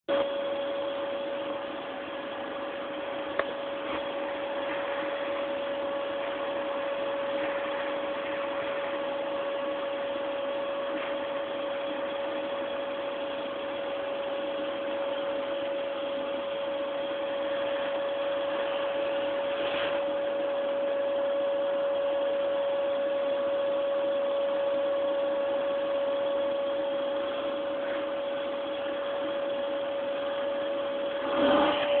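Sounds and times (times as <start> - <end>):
vacuum cleaner running: 0.1 - 32.0.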